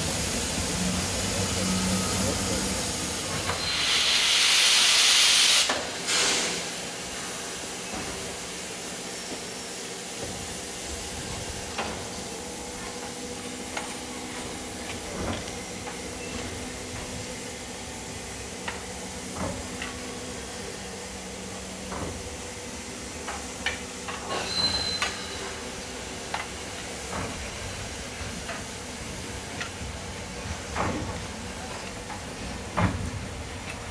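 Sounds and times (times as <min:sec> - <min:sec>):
steam locomotive hissing: 0:00.0 - 0:33.9.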